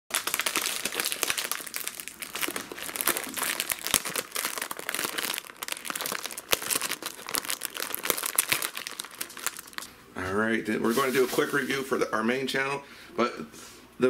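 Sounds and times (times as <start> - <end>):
plastic wrapping crinkling: 0.1 - 11.7.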